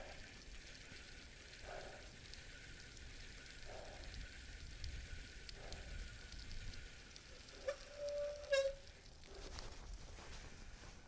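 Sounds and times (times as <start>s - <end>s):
bicycle tyres rolling on pavement: 0.0s - 11.0s.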